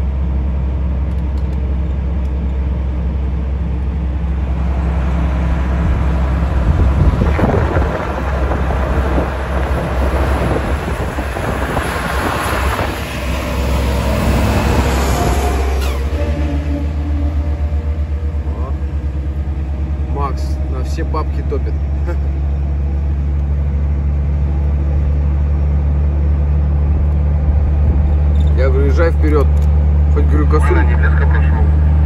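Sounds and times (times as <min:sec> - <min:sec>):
passing truck road noise: 0:00.0 - 0:32.0
truck engine drone in cab: 0:00.0 - 0:32.0.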